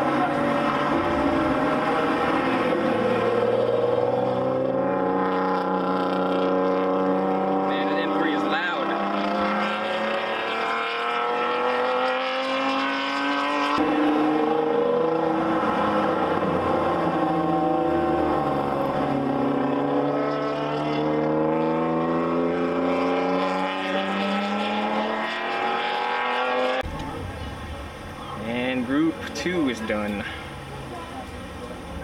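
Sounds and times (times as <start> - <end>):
racing car engines: 0.0 - 32.0.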